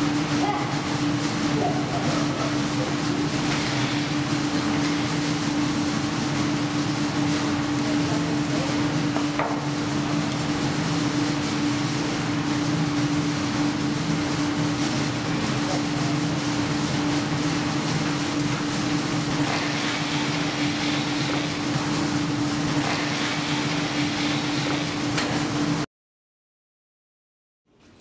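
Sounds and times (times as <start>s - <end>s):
foundry machinery roar: 0.0s - 25.8s.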